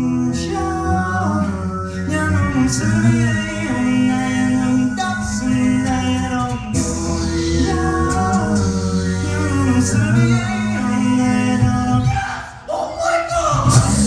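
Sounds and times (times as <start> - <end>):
deep sung bass line: 0.0 - 12.4, 13.6 - 14.0
group singing chords: 0.0 - 12.7, 13.6 - 14.0.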